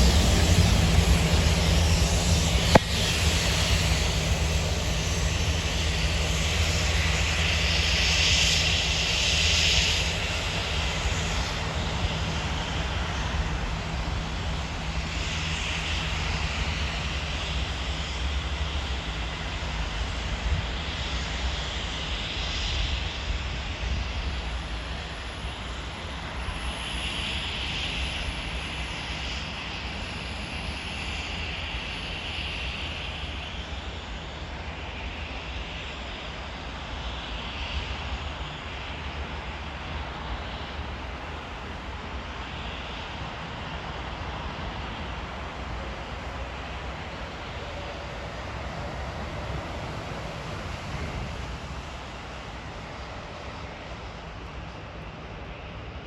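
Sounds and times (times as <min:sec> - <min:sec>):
diesel locomotive droning: 0:00.0 - 0:56.0.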